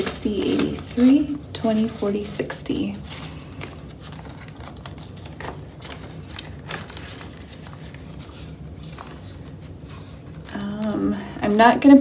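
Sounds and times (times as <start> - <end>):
banknotes and plastic rustling: 0.0 - 11.6.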